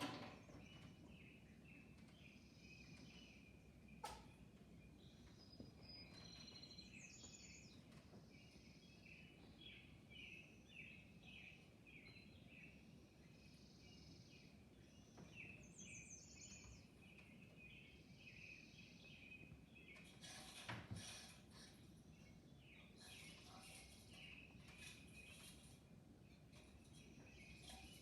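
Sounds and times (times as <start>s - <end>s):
low background hum: 0.0s - 28.0s
songbird chirping and trilling: 0.0s - 28.0s.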